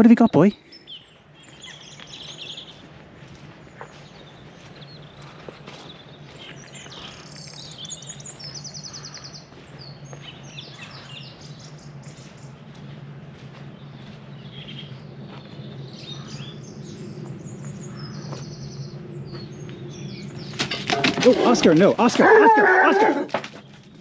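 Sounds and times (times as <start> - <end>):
small birds chirping: 0.0 - 24.0
steady low hum: 0.5 - 22.5.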